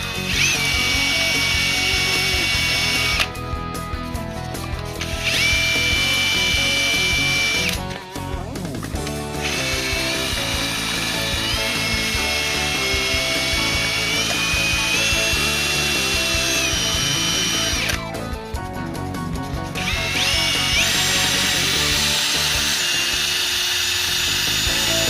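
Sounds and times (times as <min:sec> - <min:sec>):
electric drill whining: 0:00.0 - 0:03.5, 0:04.6 - 0:18.3, 0:19.8 - 0:25.0.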